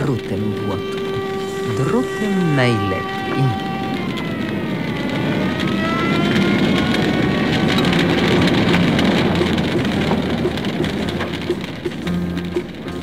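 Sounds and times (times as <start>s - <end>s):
loud dense crackling rush: 0.0s - 13.0s
vehicle engine running: 0.0s - 13.0s.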